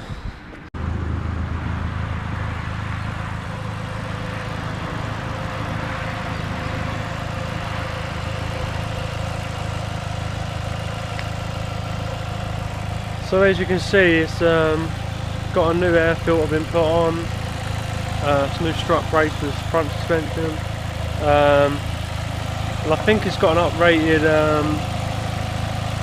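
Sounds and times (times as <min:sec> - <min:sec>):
car engine idling: 0:00.8 - 0:26.0.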